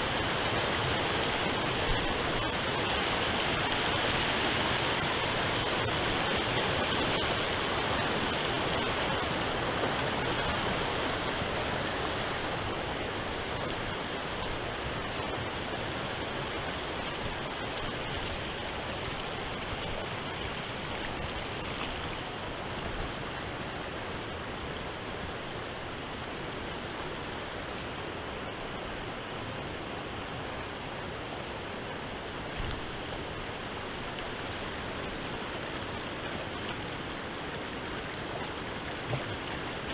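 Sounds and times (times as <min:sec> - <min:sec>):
water rushing over cobbles: 0:00.0 - 0:24.0, 0:31.9 - 0:39.9.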